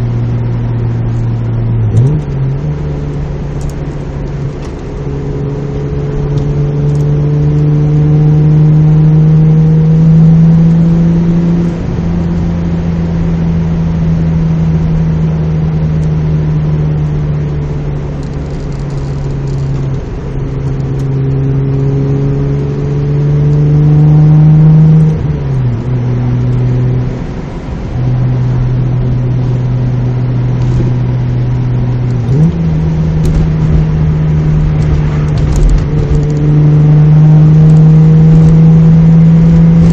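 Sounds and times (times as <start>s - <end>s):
car engine and exhaust from inside cabin: 0.0s - 39.9s.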